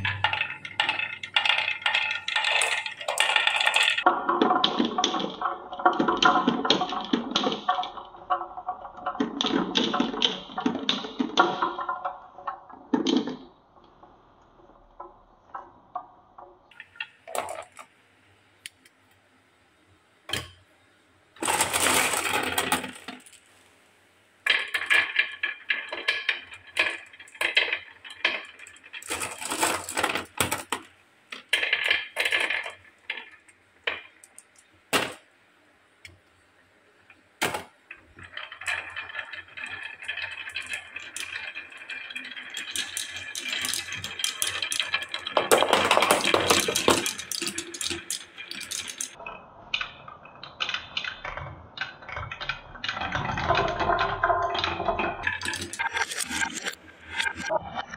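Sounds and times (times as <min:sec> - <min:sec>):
balls rolling on wooden tracks: 0:00.0 - 0:17.9, 0:21.4 - 0:23.8, 0:24.4 - 0:35.3, 0:37.0 - 0:57.9.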